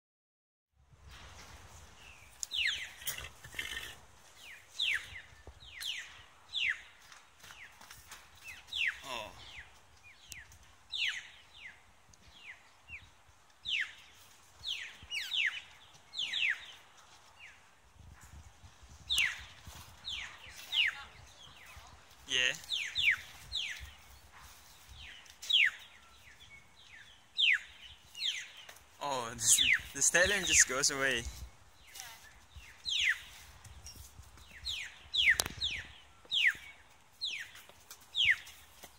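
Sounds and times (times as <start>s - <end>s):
birds calling with downward sweeps: 2.0s - 7.7s, 8.4s - 17.6s, 22.4s - 38.9s.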